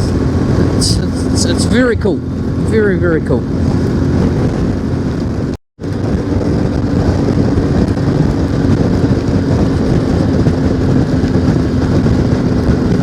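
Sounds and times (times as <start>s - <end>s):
motorcycle engine droning: 0.0s - 13.0s
road noise: 0.0s - 13.0s
rushing wind: 0.0s - 13.0s.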